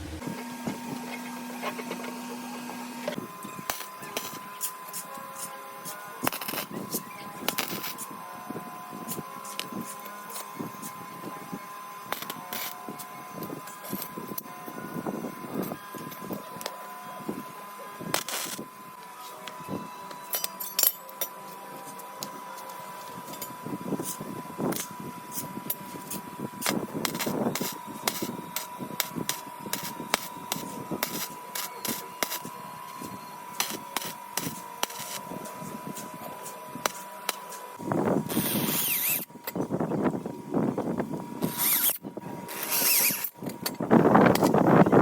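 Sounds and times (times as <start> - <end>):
power tool running: 0.0 - 45.0.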